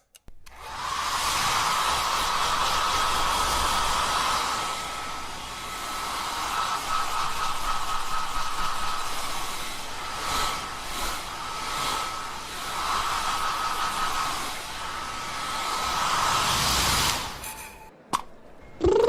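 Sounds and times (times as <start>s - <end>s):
blower-like rushing with whistle: 0.5s - 17.9s.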